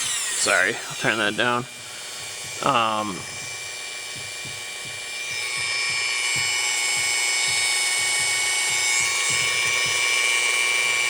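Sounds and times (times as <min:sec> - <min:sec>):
rotary tool high-pitched whine: 0:00.0 - 0:11.0.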